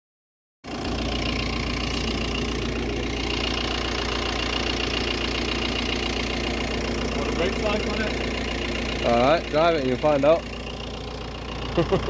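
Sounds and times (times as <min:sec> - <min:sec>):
car engine idling: 0:00.7 - 0:12.0.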